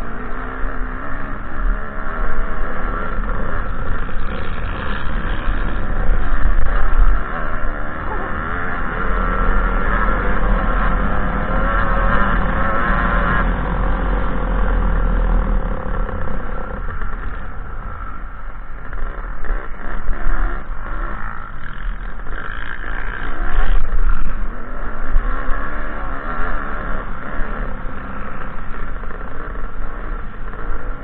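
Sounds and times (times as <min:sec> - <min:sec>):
dirt bike engine running hard: 0:00.0 - 0:31.0.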